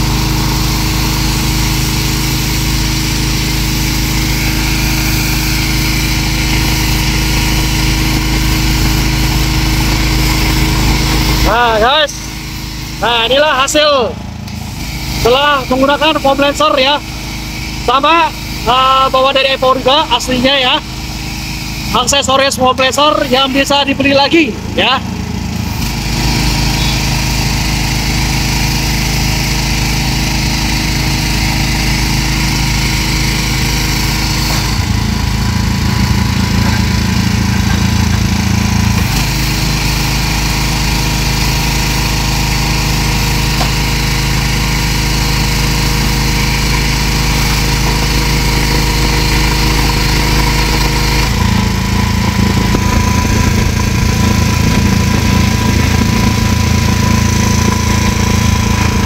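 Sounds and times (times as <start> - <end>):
pressure washer engine running: 0.0 - 59.0
water jet spraying: 0.0 - 59.0.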